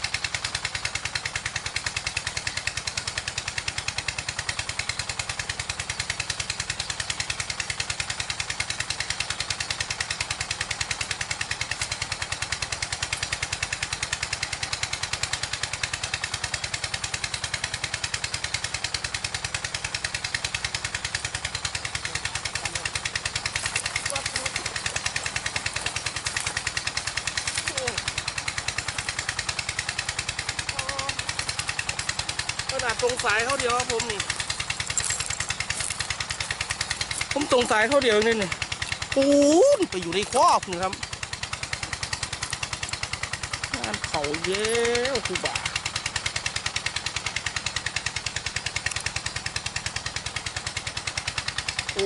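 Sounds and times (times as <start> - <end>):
small engine chugging: 0.0 - 52.0.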